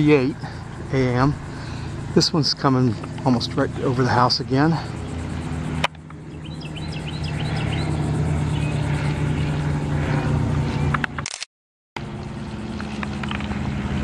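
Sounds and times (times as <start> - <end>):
propeller plane droning overhead: 0.0 - 11.4, 12.0 - 14.0.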